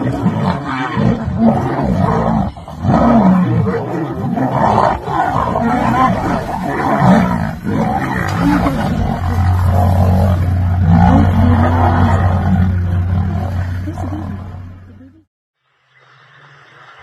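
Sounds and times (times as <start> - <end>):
lions snarling and roaring: 0.0 - 15.0.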